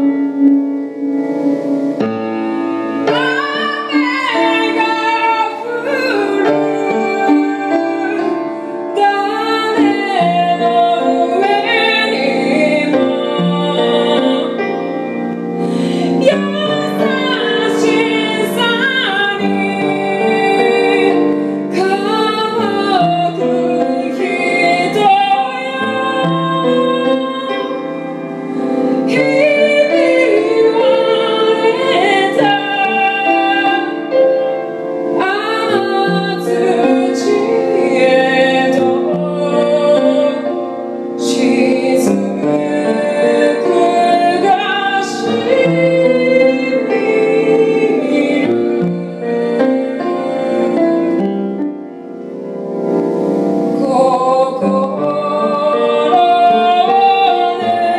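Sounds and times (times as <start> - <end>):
piano accompaniment: 0.0 - 57.9
woman singing: 3.0 - 51.6, 53.8 - 57.9.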